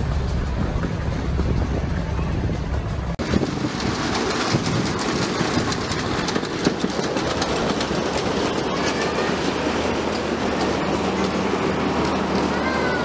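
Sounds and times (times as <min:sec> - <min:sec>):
small train wheels clattering: 0:00.0 - 0:13.0.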